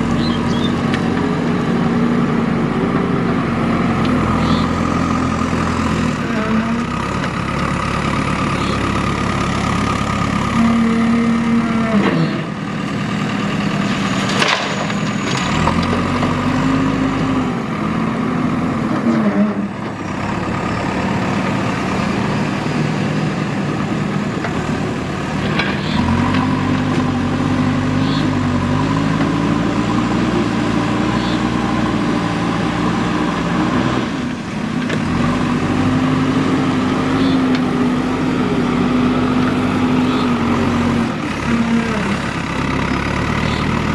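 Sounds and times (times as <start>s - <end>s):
diesel engine revving under load: 0.0s - 43.9s.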